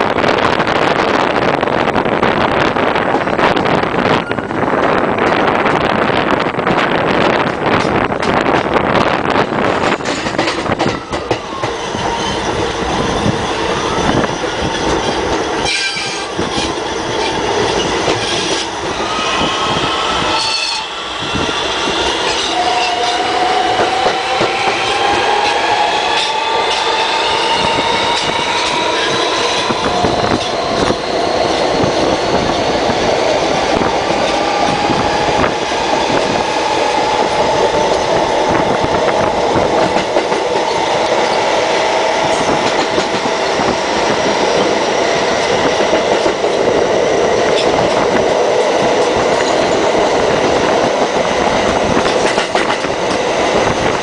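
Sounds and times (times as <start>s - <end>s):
train wheels on rails: 0.0s - 54.0s
wind buffeting microphone: 0.0s - 54.0s.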